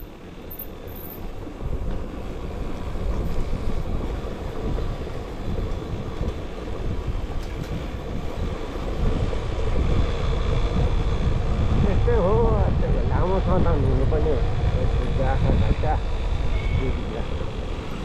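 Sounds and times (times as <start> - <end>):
wind rushing over microphone: 0.1 - 18.0.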